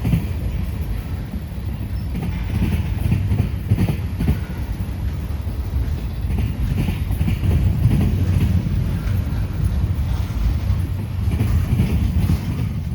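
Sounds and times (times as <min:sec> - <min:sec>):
freight train rumbling past: 0:00.0 - 0:12.9.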